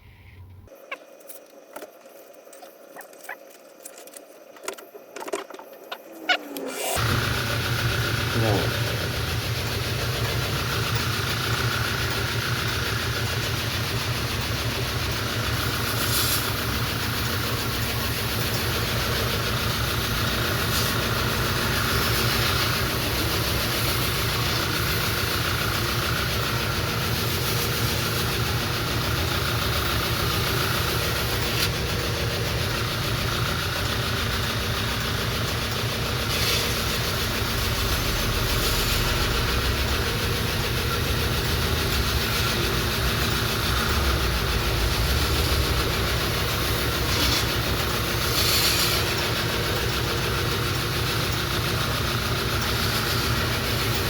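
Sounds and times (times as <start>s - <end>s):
belt grinder motor hum: 4.9s - 50.4s.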